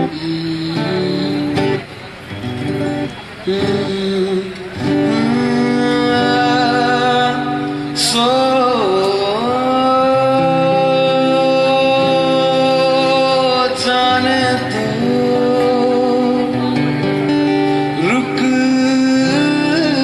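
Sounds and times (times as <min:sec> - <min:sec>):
man singing: 0:00.0 - 0:01.9, 0:03.4 - 0:17.0, 0:17.7 - 0:20.0
acoustic guitar chords: 0:00.0 - 0:20.0.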